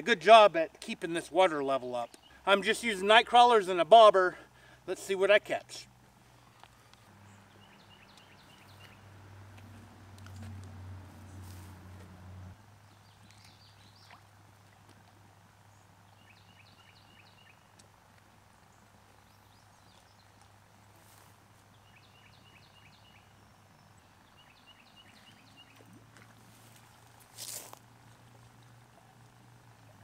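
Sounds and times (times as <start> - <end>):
songbird singing: 0.0 - 4.9, 5.5 - 11.6, 12.5 - 14.8, 15.6 - 30.0.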